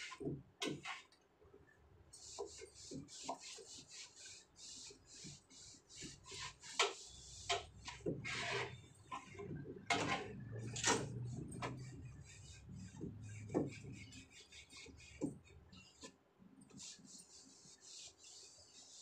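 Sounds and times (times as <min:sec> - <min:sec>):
cloth scrubbing a shelf: 0:02.2 - 0:16.1, 0:16.7 - 0:19.0.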